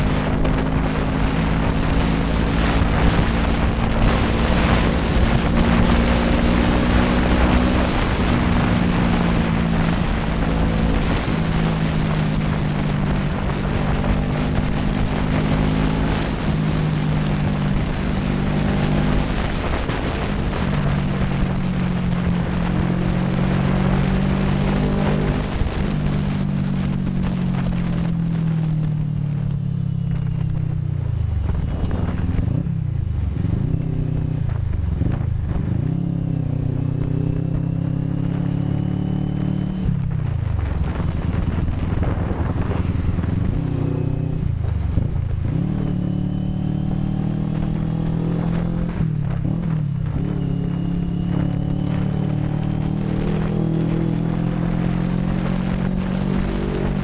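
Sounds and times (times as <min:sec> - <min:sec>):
motorcycle engine running: 0:00.0 - 0:57.0
rushing wind: 0:00.0 - 0:57.0.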